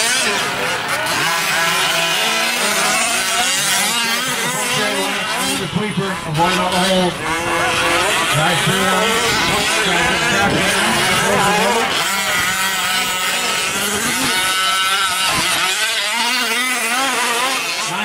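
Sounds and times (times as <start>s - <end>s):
rc truck engines revving: 0.0s - 18.0s.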